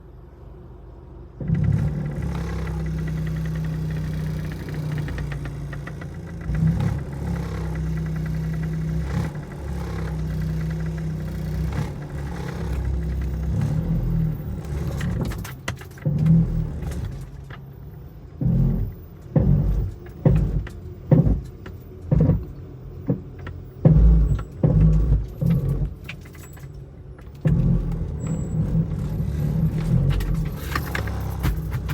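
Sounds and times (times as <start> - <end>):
car engine revving: 1.4 - 31.9.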